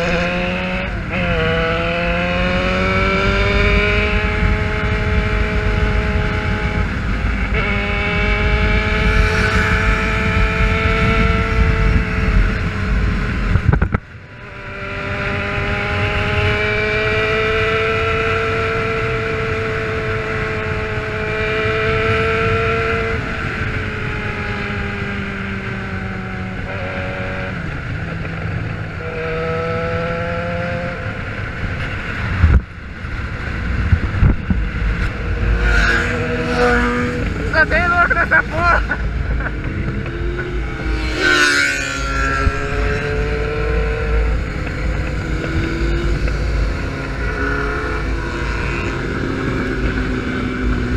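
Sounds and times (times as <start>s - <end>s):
motorcycle engine at high revs: 0.0s - 50.9s
wind rushing over microphone: 0.0s - 50.9s.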